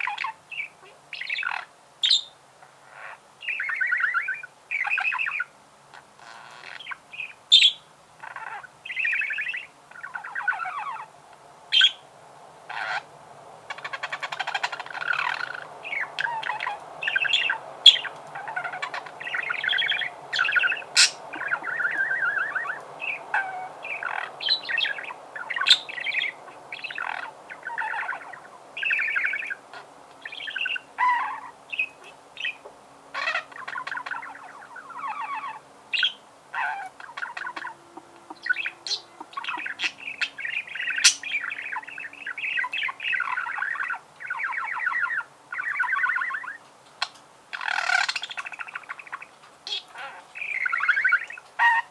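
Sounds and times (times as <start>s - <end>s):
budgerigar warbling and chirping: 0.0s - 11.1s, 11.7s - 12.0s, 12.7s - 13.1s, 13.7s - 51.9s.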